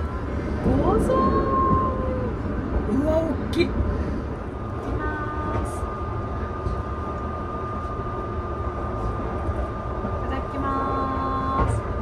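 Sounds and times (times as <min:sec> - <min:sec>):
thin steady whine: 0:00.0 - 0:12.0
train interior low rumble: 0:00.0 - 0:12.0.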